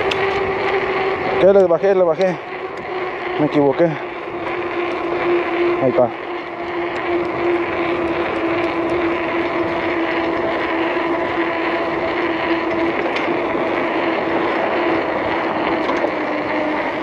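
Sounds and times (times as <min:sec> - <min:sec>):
tyres humming on road: 0:00.0 - 0:17.0.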